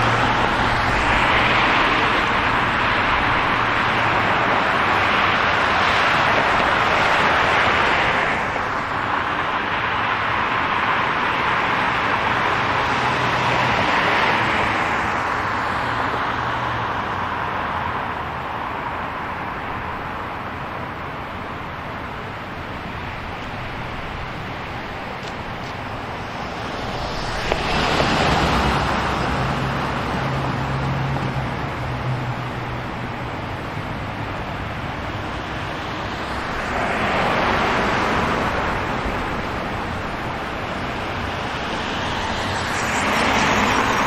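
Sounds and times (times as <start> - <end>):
cars passing on road: 0.0 - 44.0.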